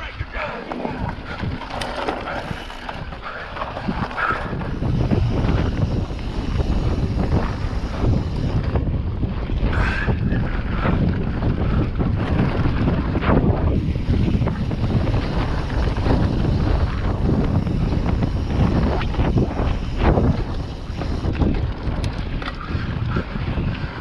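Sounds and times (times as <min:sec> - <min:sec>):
wind buffeting microphone: 0:00.0 - 0:24.0
bike clattering over rough trail: 0:00.3 - 0:24.0.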